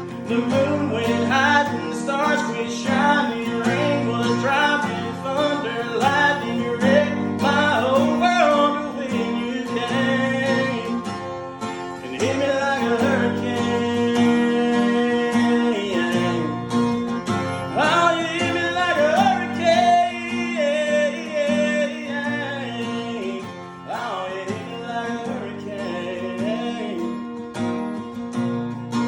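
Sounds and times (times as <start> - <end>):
guitar chords: 0.0 - 29.0
person singing country song: 0.0 - 29.0.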